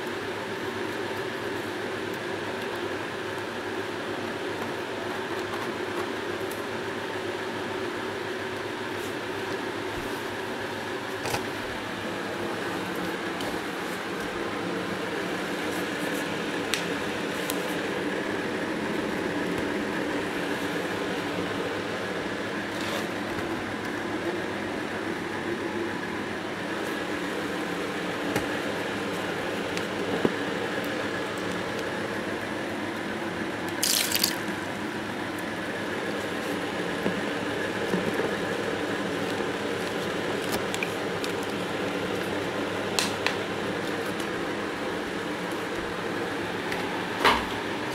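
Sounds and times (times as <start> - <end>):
electric fan motor humming: 0.0 - 47.9.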